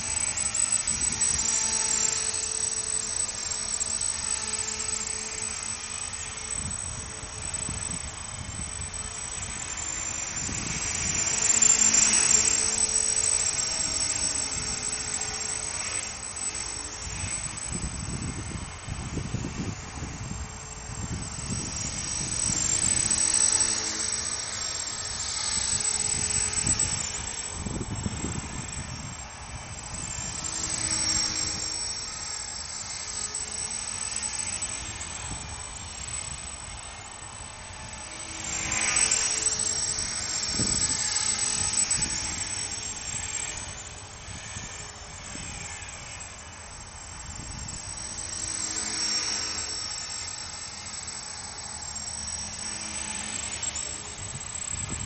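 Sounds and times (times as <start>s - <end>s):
electric motor whine: 0.0s - 55.0s
rotor blades rushing: 0.0s - 55.0s.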